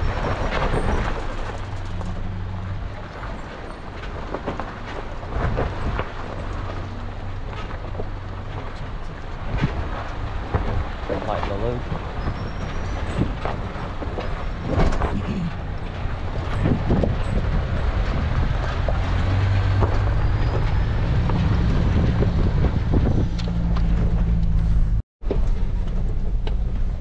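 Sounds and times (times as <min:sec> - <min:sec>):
vehicle engine droning: 0:00.0 - 0:27.0
vehicle knocks and rattles: 0:00.0 - 0:27.0.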